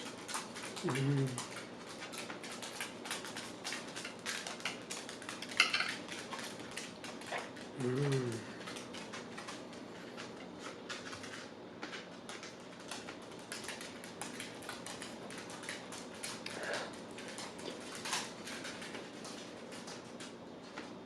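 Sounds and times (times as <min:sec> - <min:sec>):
person chewing with wet mouth sounds: 0:00.0 - 0:11.1, 0:12.3 - 0:20.0.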